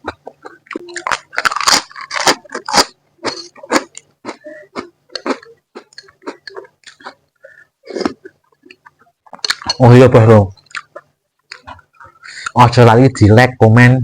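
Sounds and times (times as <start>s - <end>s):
person chewing: 0.0s - 9.8s, 10.5s - 12.6s.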